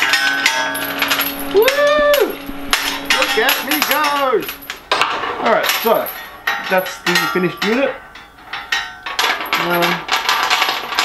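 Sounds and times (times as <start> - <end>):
chains clinking and clanking: 0.0 - 11.0.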